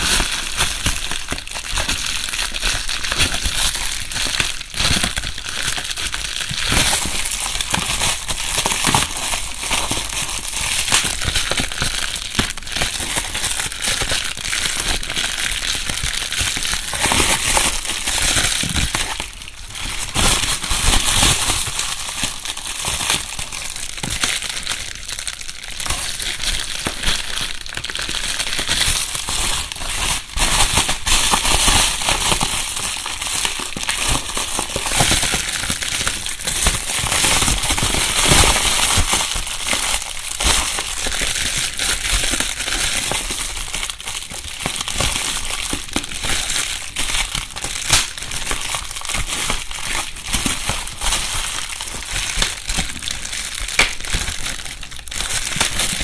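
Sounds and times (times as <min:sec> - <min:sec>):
bubble wrap crinkling: 0:00.0 - 0:56.0
bubble wrap popping: 0:00.0 - 0:56.0.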